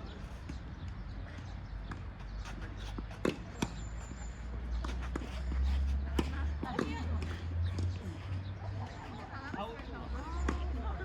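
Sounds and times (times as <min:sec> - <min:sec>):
tennis balls struck by rackets: 0:00.4 - 0:11.0
balls bouncing on hard court: 0:01.3 - 0:08.3, 0:09.0 - 0:11.0.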